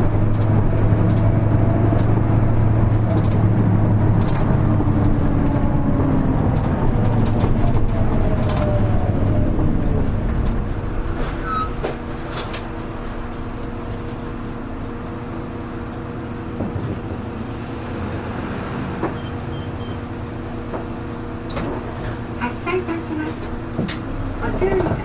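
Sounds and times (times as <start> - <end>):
bus engine idle hum: 0.0 - 25.0
bus engine winding down: 0.0 - 25.0.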